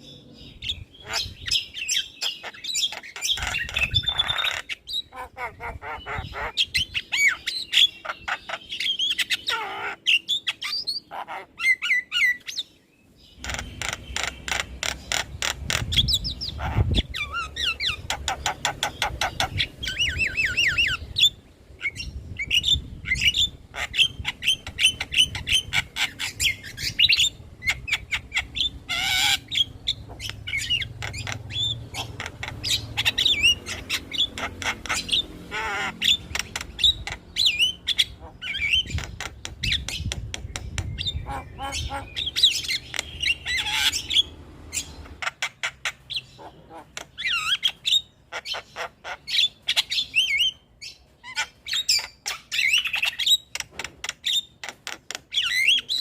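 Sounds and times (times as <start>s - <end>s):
myna bird singing: 0.0s - 56.0s.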